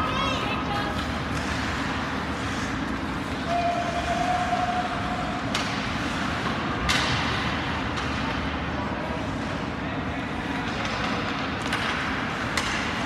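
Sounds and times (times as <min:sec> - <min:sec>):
ice rink rumble: 0:00.0 - 0:13.0.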